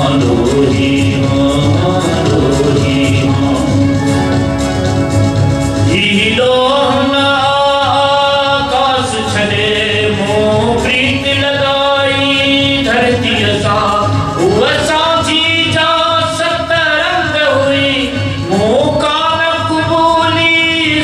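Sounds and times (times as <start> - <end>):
man singing: 0.0 - 5.0, 5.7 - 21.0
instrumental accompaniment: 0.0 - 21.0.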